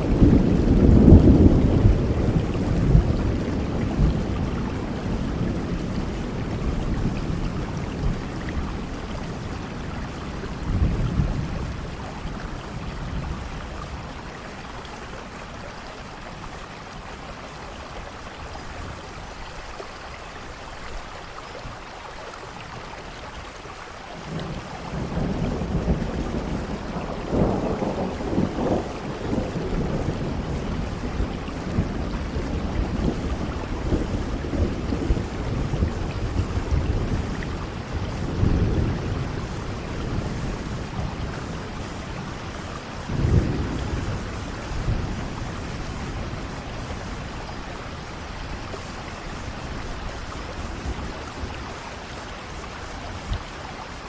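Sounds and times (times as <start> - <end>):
thunder rumbling: 0.0 - 15.6, 24.2 - 54.0
steady rain: 0.0 - 54.0.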